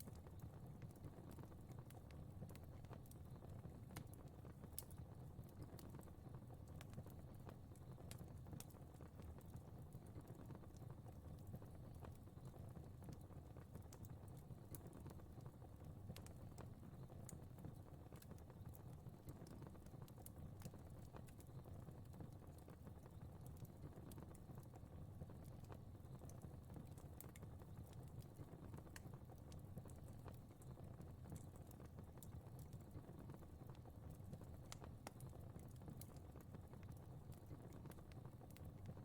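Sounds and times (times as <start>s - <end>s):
fire crackling: 0.0s - 39.0s
low rumble of flames: 0.0s - 39.0s.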